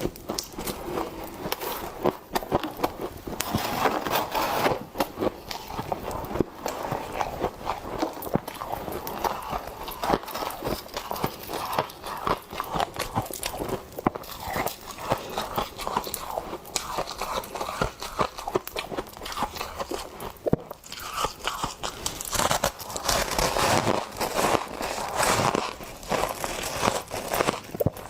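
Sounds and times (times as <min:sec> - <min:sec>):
crunchy chewing: 0:00.0 - 0:28.0.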